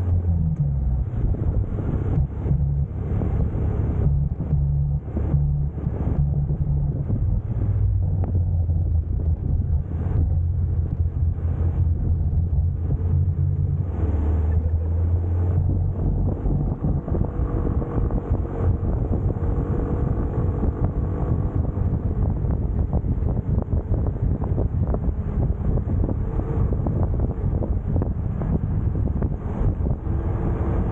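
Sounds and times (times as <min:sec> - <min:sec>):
scooter low rumble: 0:00.0 - 0:30.9
wind buffeting microphone: 0:00.0 - 0:30.9.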